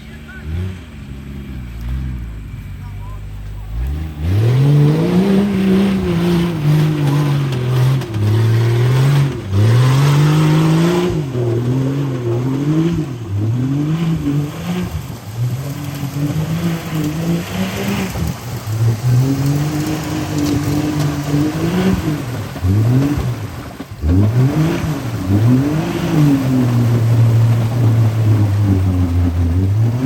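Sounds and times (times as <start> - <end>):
truck engine revving hard: 0.0 - 30.0.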